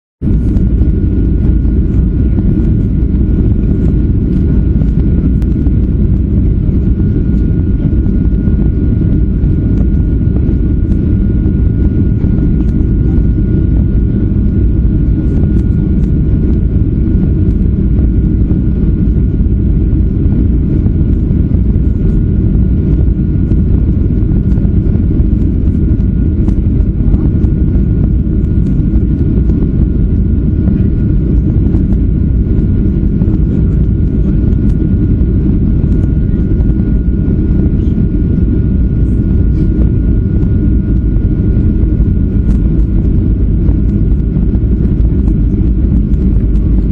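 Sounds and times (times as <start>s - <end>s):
airplane cabin airflow rush: 0.2s - 46.9s
thin steady whine: 0.2s - 46.9s.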